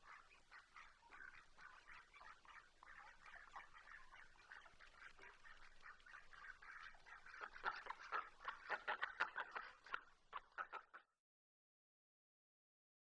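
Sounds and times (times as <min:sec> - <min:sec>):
ducks quacking: 0:00.0 - 0:11.1.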